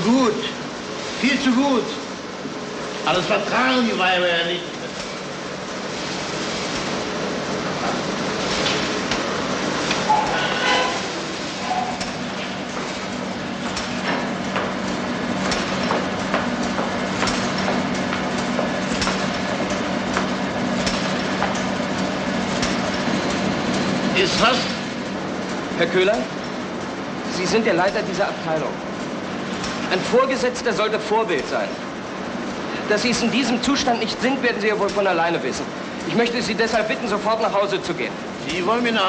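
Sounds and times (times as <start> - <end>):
machinery hum: 0.0 - 39.0.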